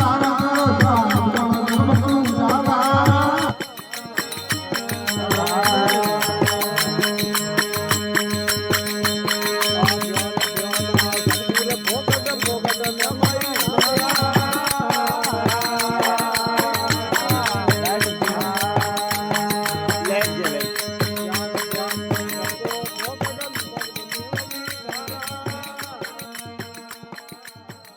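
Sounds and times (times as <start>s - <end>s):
drum beat: 0.0s - 25.0s.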